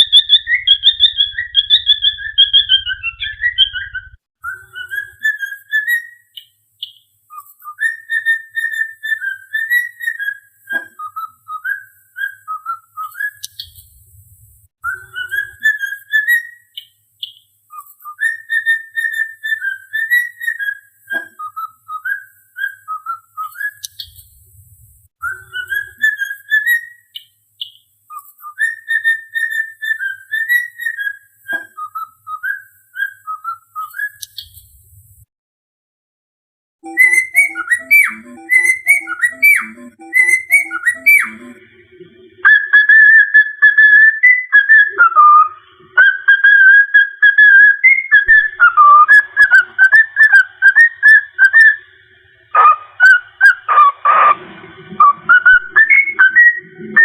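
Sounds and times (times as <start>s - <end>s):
cockatiel whistling a tune: 0.0s - 13.8s, 14.8s - 24.2s, 25.2s - 27.2s, 28.1s - 34.5s, 36.8s - 41.6s, 42.4s - 51.8s, 55.0s - 57.0s.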